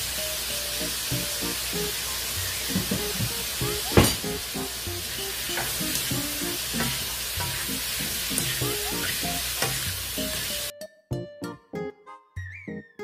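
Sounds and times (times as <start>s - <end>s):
mushrooms sizzling in a frying pan: 0.0s - 10.7s
plucked-note background music: 0.2s - 13.0s.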